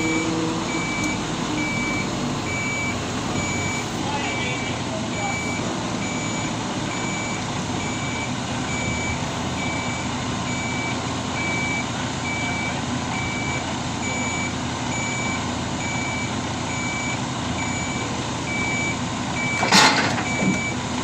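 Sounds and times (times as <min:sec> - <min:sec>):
reversing alarm beeping: 0:00.0 - 0:20.8
truck engine running: 0:00.0 - 0:21.0.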